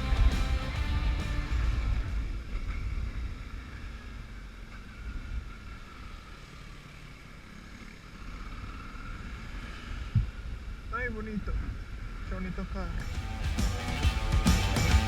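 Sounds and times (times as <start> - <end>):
motorcycle engine rumble: 0.0 - 10.9, 12.9 - 15.0.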